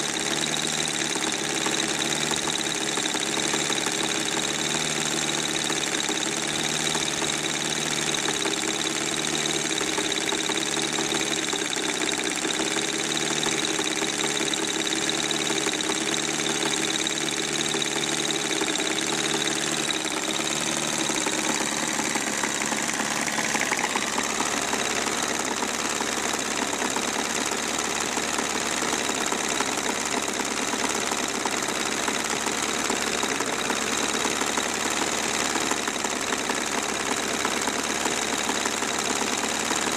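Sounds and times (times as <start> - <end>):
model diesel engine knocking: 0.0 - 39.9
second small model engine running: 0.0 - 39.9.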